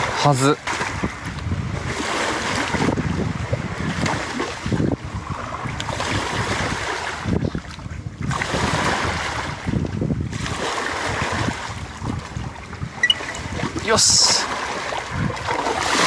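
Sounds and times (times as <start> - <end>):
lake waves sloshing on shore: 0.0 - 16.0
wind buffeting microphone: 0.0 - 16.0.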